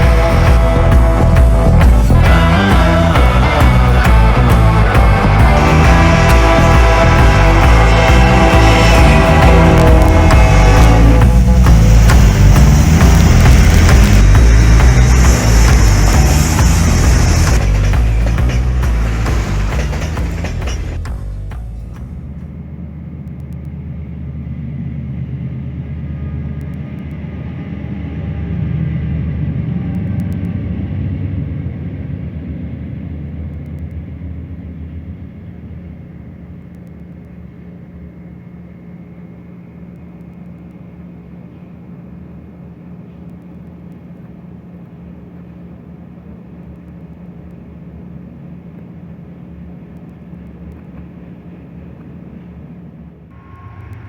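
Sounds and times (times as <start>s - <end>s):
diesel locomotives passing: 0.0s - 36.7s, 37.3s - 54.0s
low hum: 0.0s - 54.0s.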